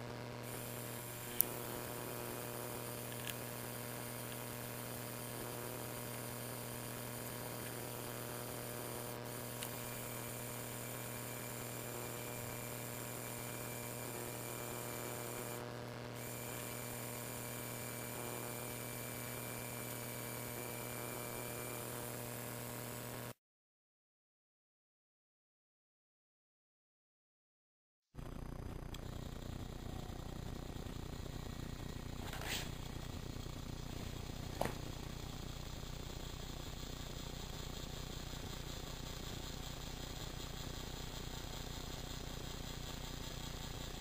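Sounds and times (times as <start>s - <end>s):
steady electrical hum: 0.0s - 23.4s, 28.2s - 44.0s.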